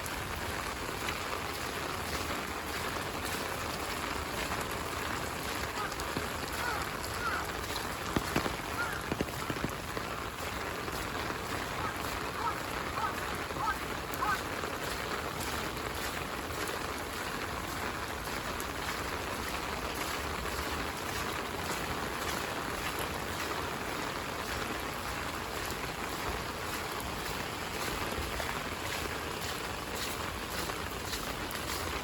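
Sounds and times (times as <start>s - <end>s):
heavy rain falling: 0.0s - 32.0s
raindrops tapping: 0.0s - 32.0s.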